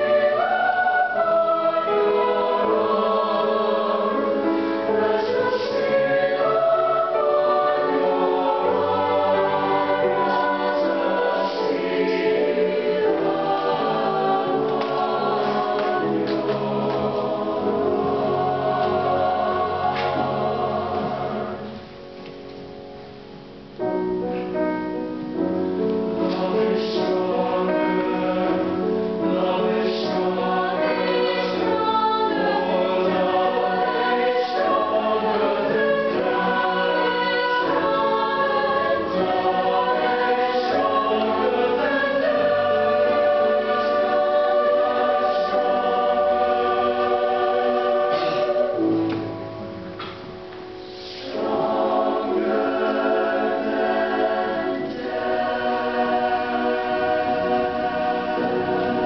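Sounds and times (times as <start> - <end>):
choir singing in sustained chords: 0.0 - 59.0.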